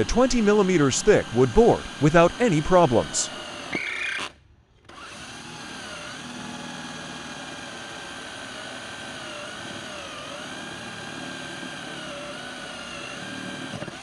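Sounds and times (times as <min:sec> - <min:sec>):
cordless drill boring into wood: 0:00.0 - 0:14.0.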